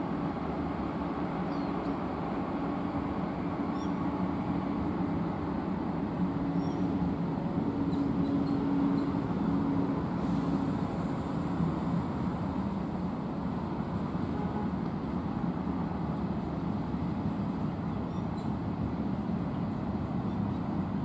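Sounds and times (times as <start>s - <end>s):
freight wagons rumbling on rail: 0.0s - 21.0s.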